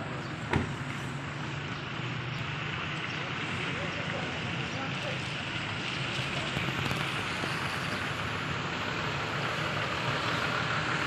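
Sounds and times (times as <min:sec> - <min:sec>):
car engines: 0:00.0 - 0:11.0
tyres hissing on wet road: 0:00.0 - 0:11.0.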